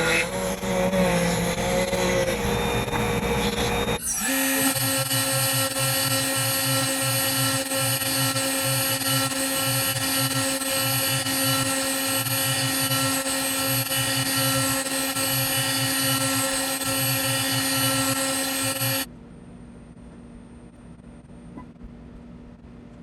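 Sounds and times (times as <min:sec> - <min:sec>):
router spindle whine cutting wood: 0:00.0 - 0:19.1.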